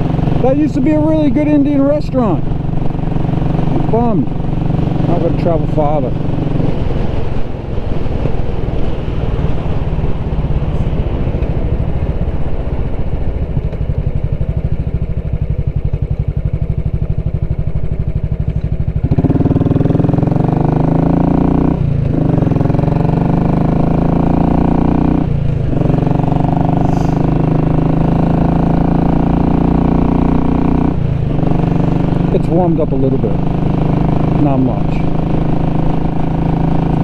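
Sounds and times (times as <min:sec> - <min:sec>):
motorcycle engine while riding: 0:00.0 - 0:37.0.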